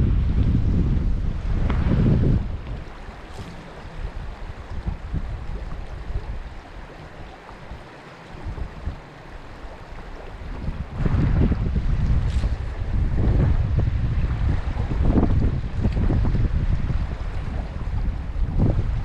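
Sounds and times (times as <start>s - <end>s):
wind gusting on microphone: 0.0s - 19.0s
stream water rushing: 0.1s - 19.0s.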